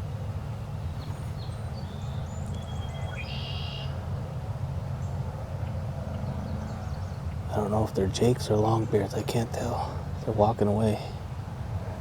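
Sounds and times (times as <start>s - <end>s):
songbirds chirping: 0.1s - 11.6s.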